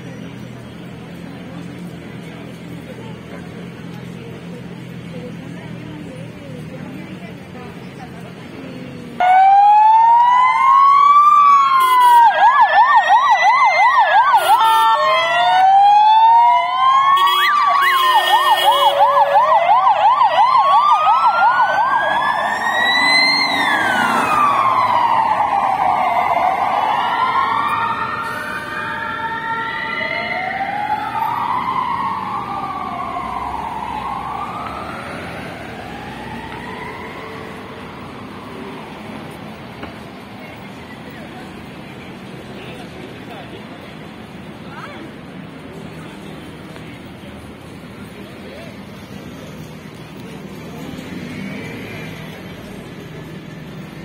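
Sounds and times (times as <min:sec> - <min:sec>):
emergency vehicle siren wailing: 0:08.3 - 0:54.0.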